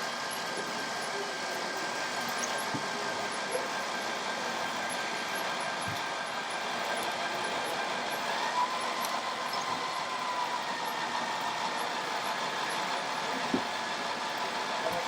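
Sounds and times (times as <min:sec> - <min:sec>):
mechanical whine of model trucks: 0:00.0 - 0:15.0.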